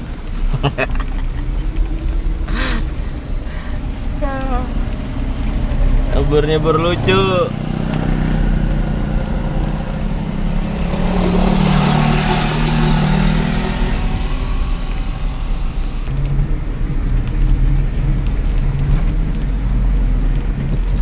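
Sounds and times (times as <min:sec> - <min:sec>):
car engine running under load: 0:00.0 - 0:21.0.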